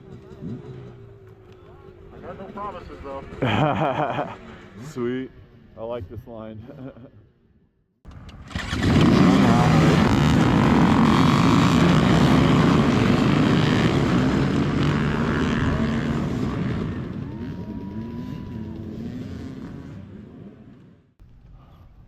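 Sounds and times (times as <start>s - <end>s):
dirt bike engines revving: 0.0s - 5.9s, 8.5s - 21.0s.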